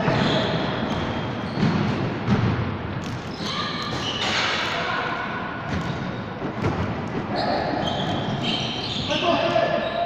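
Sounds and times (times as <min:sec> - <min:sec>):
sneaker squeaks: 0:00.0 - 0:05.0, 0:05.7 - 0:10.0.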